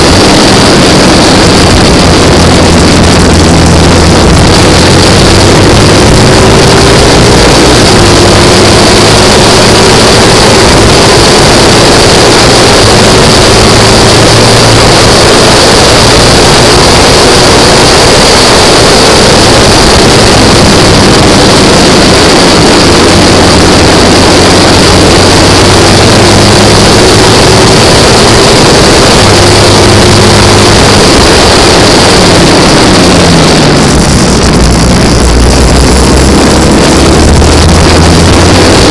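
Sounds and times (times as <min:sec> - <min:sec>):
racing engine roaring: 0:00.0 - 0:38.9.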